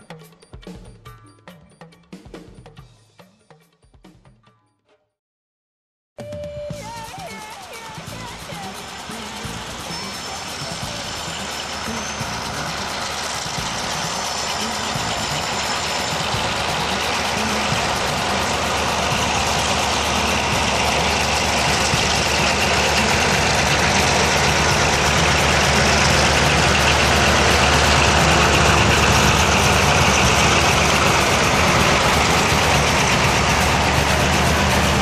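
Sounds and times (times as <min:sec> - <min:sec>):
diesel locomotives droning: 0:06.2 - 0:35.0.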